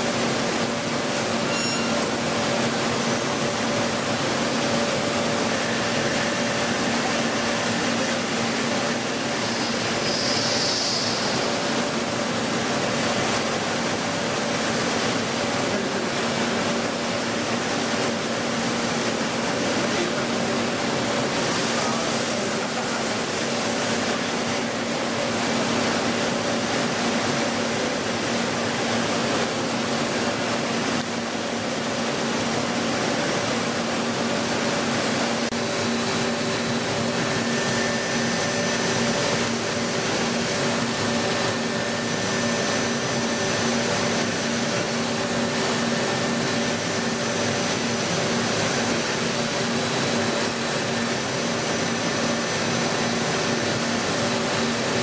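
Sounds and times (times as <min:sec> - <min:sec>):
machine hiss and two-tone hum: 0:00.0 - 0:55.0.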